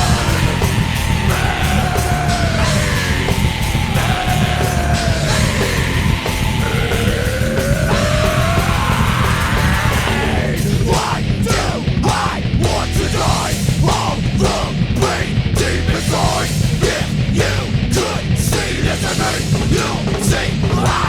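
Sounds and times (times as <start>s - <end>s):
heavy metal band playing: 0.0s - 21.0s
high sliding guitar line: 0.0s - 21.0s.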